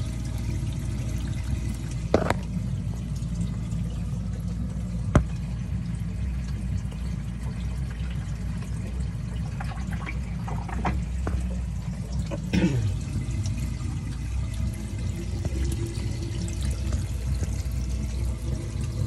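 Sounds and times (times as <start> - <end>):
water running and splashing: 0.0 - 19.0.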